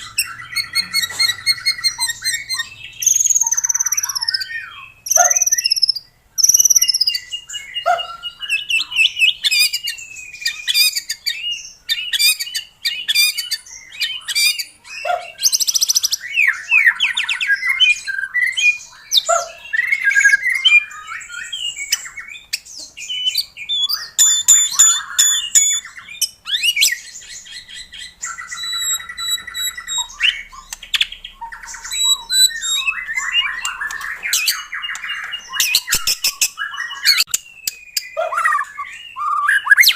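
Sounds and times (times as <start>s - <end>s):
bird singing varied whistled song: 0.0s - 39.9s.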